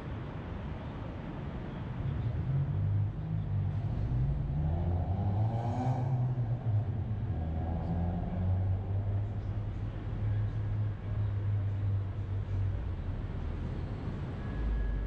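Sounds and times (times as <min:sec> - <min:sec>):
road noise: 0:00.0 - 0:15.0
car engine rumble: 0:01.4 - 0:15.0.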